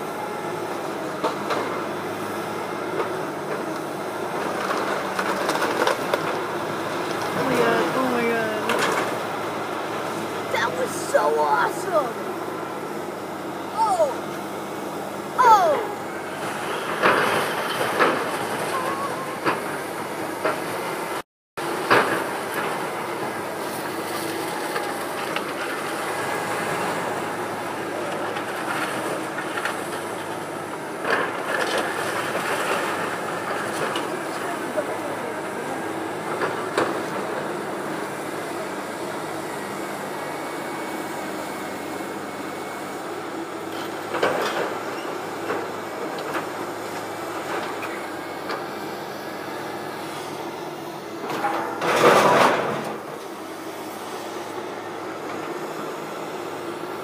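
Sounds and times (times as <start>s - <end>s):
demolition machinery rumble: 0.0s - 57.0s.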